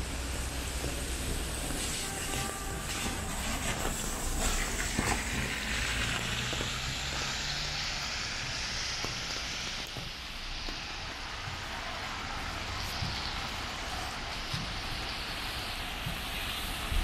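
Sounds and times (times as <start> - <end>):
rain hiss: 0.0 - 17.0
tyres swishing on wet road: 0.0 - 17.0.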